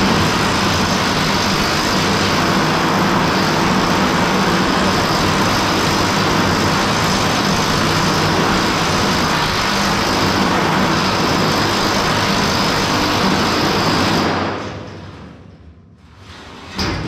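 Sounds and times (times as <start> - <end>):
air hammer pounding sheet steel: 0.0 - 15.5.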